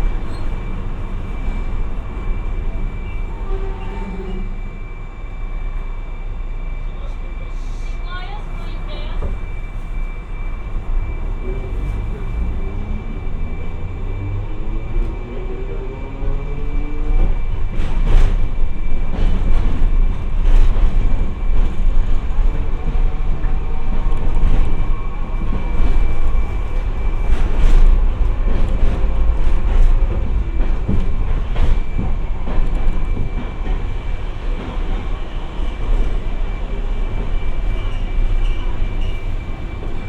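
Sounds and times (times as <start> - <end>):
streetcar wheels and motors rumbling: 0.0 - 40.0.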